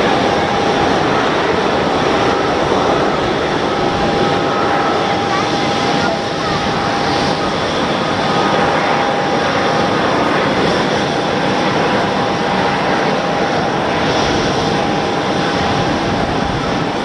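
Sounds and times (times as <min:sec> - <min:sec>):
airliner engines running: 0:00.0 - 0:17.0
thin steady whine: 0:00.0 - 0:17.0.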